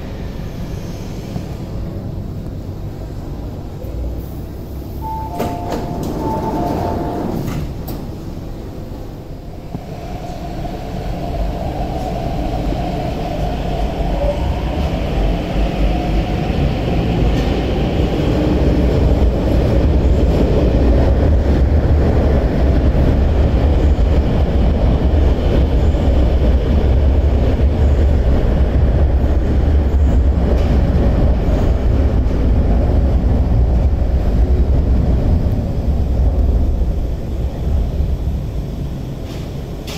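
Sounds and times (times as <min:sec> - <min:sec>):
metro train rumble: 0:00.0 - 0:39.9.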